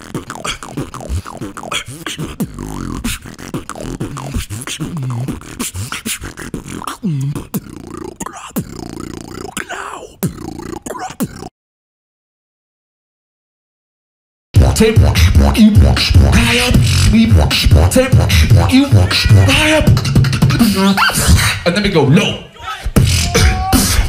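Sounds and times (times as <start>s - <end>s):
beatboxing: 0.0s - 11.5s, 14.6s - 22.0s, 22.8s - 24.0s.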